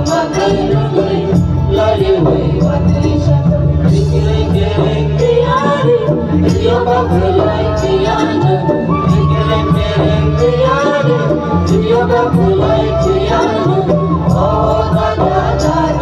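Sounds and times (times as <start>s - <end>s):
loud music with singing: 0.0s - 16.0s.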